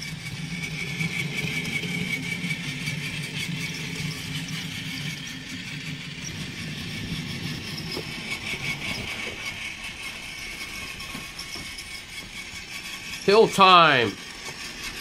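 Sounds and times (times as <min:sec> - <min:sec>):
toy train motors whirring: 0:00.0 - 0:15.0.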